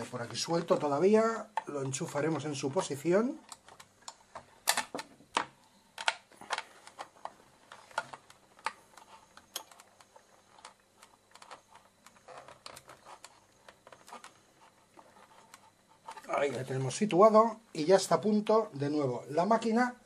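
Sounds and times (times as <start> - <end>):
plastic and wire clicking: 0.0 - 16.6.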